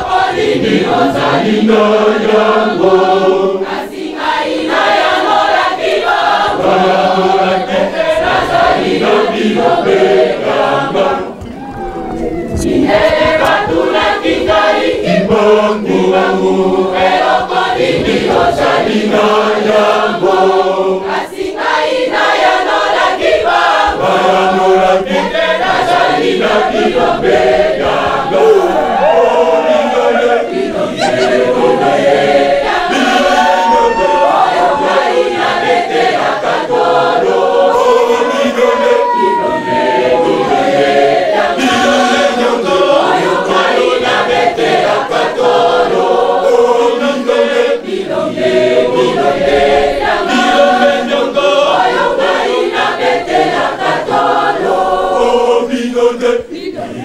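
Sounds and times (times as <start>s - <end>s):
large choir singing: 0.0s - 57.0s.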